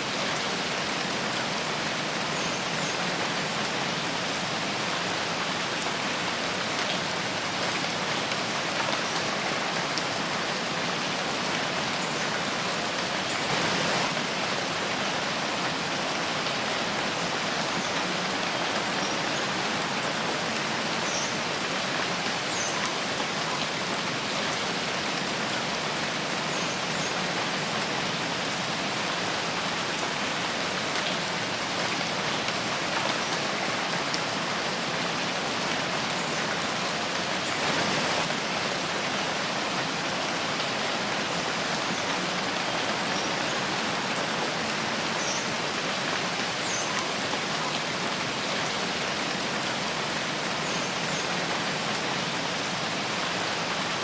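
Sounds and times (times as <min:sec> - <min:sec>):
steady rain in a forest: 0:00.0 - 0:54.0.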